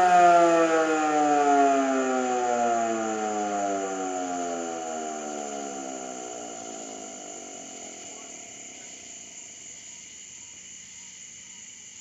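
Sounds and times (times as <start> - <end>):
air raid siren winding down: 0.0 - 9.6
crickets chirping: 0.0 - 12.0.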